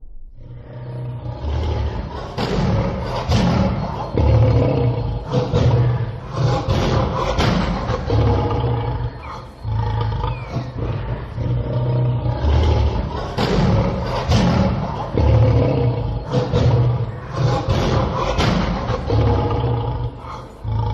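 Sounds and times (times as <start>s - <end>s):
lion roaring: 0.3s - 20.9s.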